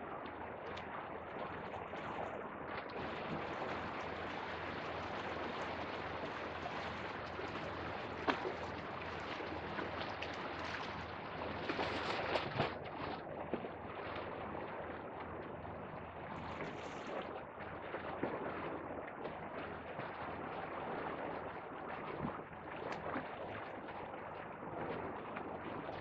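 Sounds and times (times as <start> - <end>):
waves lapping against rocks: 0.0 - 26.0.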